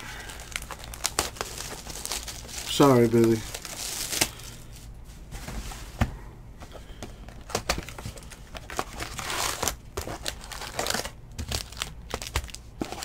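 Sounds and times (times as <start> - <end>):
plastic wrap crinkling and tearing: 0.0 - 4.8, 7.3 - 13.0
cardboard and card packs rustling: 0.1 - 13.0.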